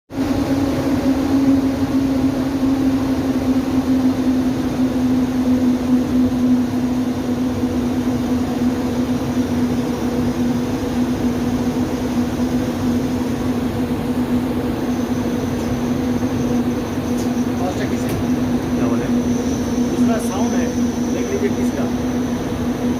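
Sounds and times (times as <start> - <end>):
ventilation fan running: 0.1 - 22.9.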